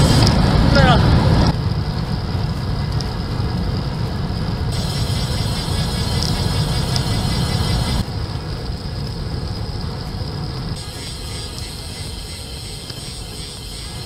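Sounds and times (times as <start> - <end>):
road noise: 0.0 - 14.0
wind rumble: 0.0 - 14.0.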